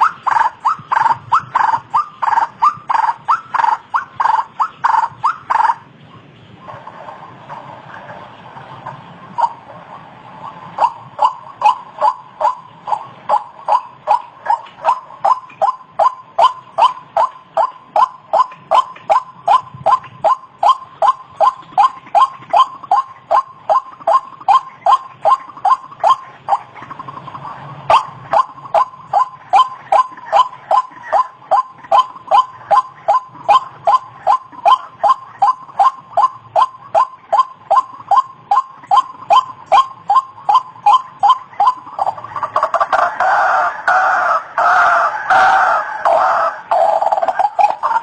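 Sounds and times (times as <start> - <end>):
dense bird call: 0.0 - 48.0
waterhen calling: 0.0 - 48.0.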